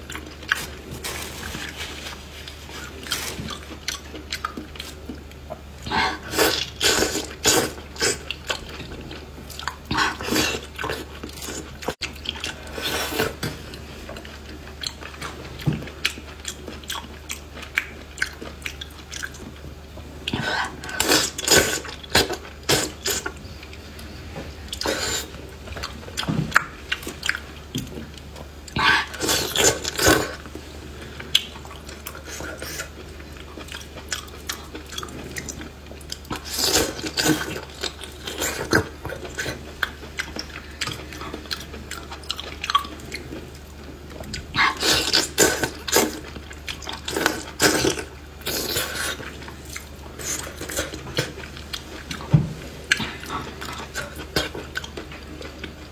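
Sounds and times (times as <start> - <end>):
wet chewing and slurping: 0.0 - 55.9.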